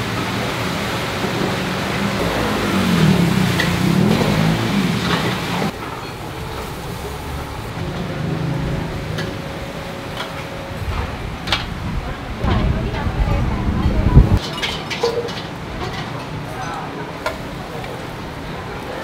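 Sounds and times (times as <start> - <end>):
woks sizzling over flames: 0.0 - 19.0.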